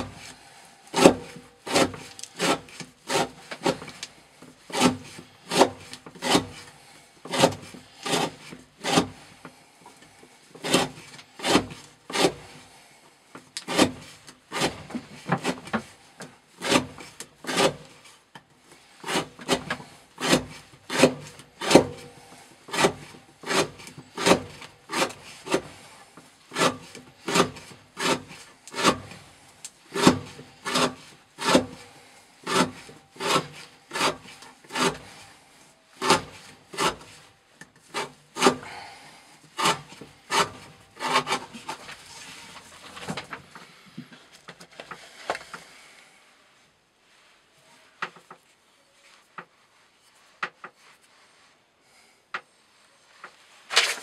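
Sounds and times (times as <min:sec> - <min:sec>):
knife scraping wood: 0:00.0 - 0:45.9.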